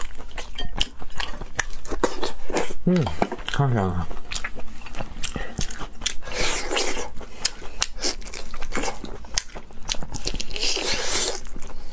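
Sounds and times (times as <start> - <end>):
person chewing meat: 0.0 - 11.9.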